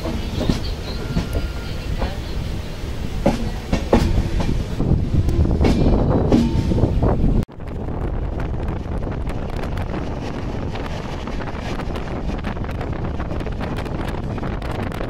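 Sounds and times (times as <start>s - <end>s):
moving train running noise: 0.0s - 15.0s
wind buffeting microphone: 0.0s - 15.0s.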